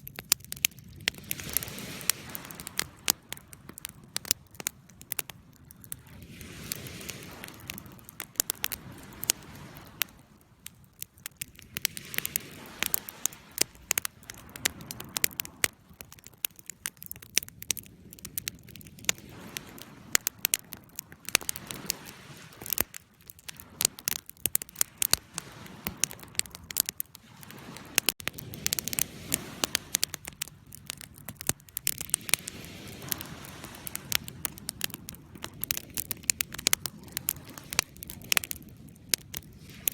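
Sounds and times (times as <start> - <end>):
campfire crackling and popping: 0.0 - 39.9
hiss of flames: 0.9 - 16.8, 17.6 - 39.9.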